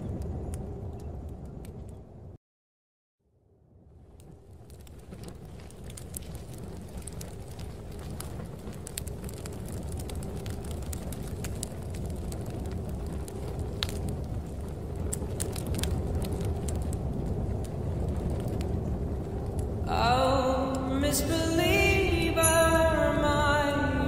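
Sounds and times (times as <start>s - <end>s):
fire crackling and popping: 0.0s - 2.4s, 3.6s - 24.0s
low rumble of wind: 0.0s - 2.4s, 3.2s - 24.0s.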